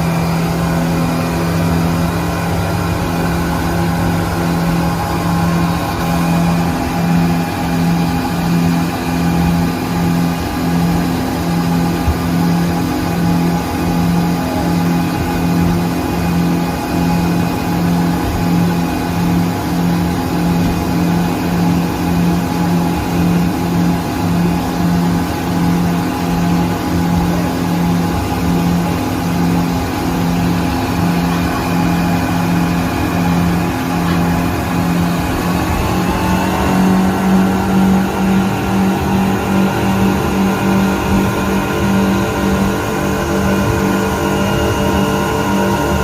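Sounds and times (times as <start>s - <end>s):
outboard motor running: 0.0s - 46.0s.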